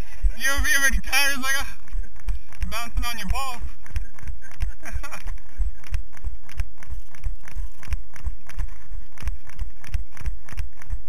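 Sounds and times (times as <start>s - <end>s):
running footsteps on pavement: 0.0s - 11.0s.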